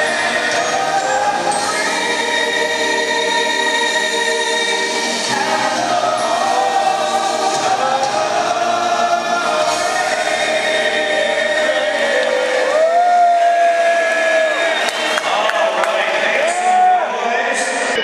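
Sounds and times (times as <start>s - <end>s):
choir singing with music: 0.0s - 18.0s.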